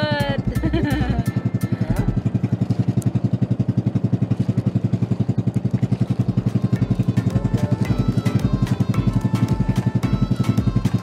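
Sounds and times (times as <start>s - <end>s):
boat engine chugging: 0.0s - 11.0s.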